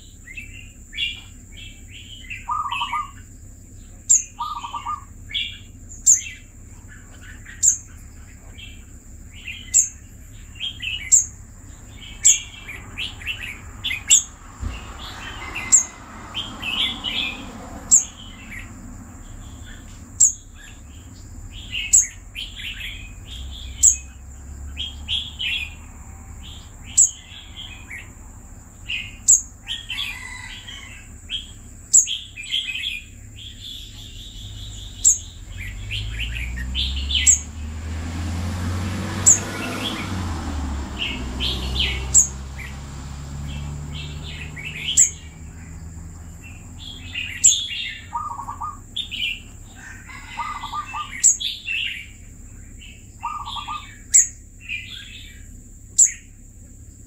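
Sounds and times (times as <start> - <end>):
bird calling in chirpy phrases: 0.0 - 38.3, 39.1 - 57.0.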